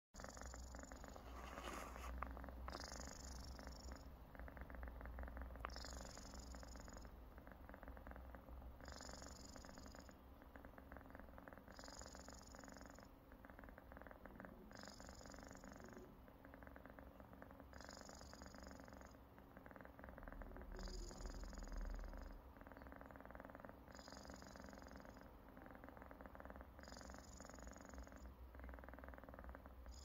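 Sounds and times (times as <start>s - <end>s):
cat snoring: 0.2s - 30.0s.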